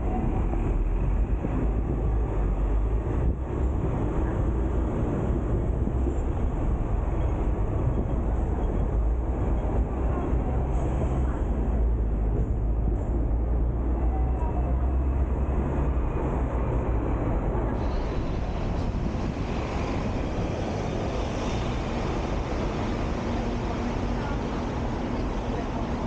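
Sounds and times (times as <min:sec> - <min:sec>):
tram wheels rumbling on rail: 0:00.0 - 0:26.0.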